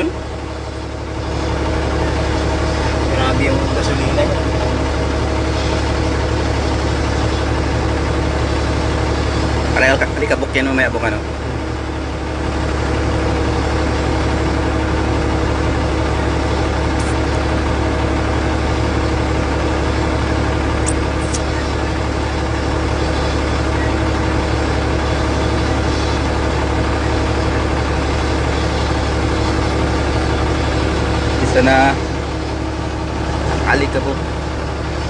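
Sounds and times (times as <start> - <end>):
engine drone with low hum: 0.0 - 35.0.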